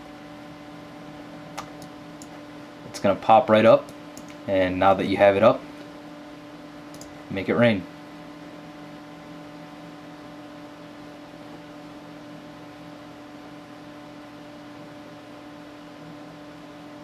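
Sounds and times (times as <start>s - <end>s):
computer cooling fan humming: 0.0s - 17.0s.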